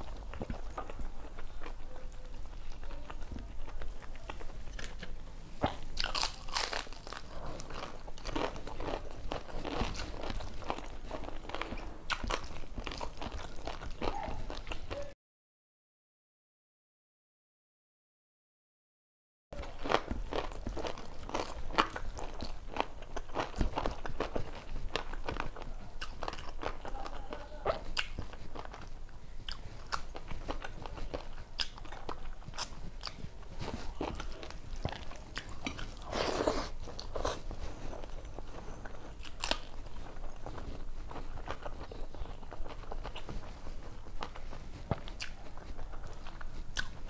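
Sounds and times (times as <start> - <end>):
chewing and crunching food: 0.0 - 15.2, 19.6 - 47.0.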